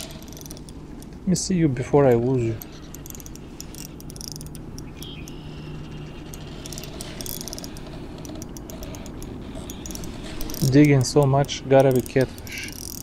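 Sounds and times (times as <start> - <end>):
fishing reel clicking and ratcheting: 0.0 - 1.2, 2.0 - 13.0
low steady hum: 0.0 - 13.0.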